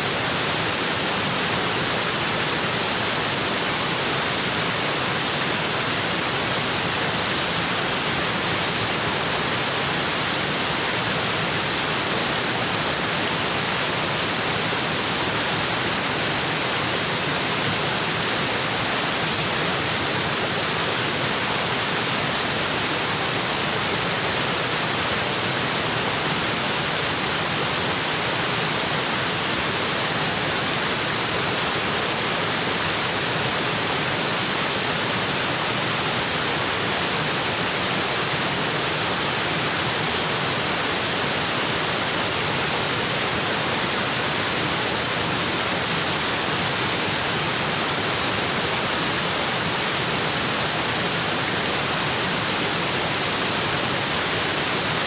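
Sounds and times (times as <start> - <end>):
waterfall onto rocks: 0.0 - 55.0.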